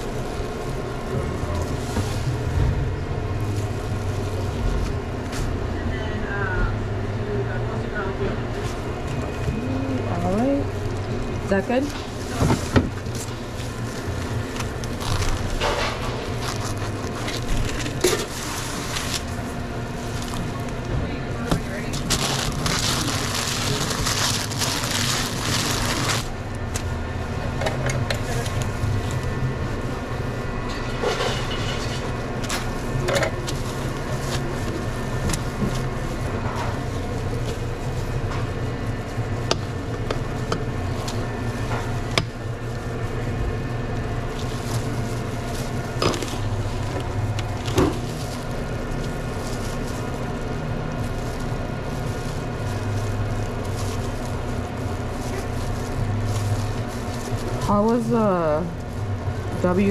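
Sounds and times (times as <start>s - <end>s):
low equipment hum: 0.0s - 59.9s.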